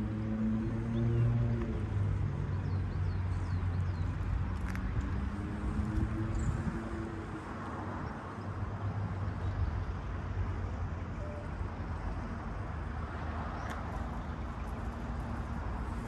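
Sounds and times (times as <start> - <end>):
faint engine hum: 0.0 - 16.0
road traffic rumble: 0.0 - 16.0.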